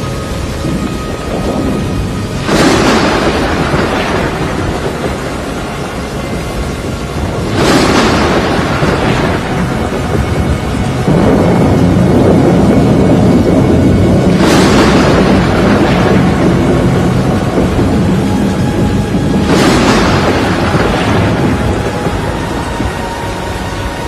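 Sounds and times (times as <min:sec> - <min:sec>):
loud thunder surges: 0:00.0 - 0:24.0
thunderstorm rush: 0:00.0 - 0:24.0.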